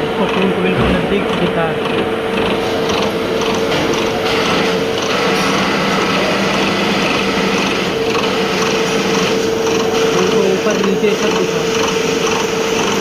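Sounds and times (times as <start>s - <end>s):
milling machine cutter whine: 0.0s - 13.0s.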